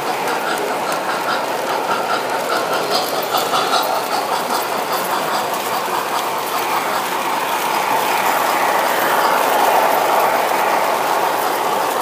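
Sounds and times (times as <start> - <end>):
model trains running on track: 0.0 - 12.0.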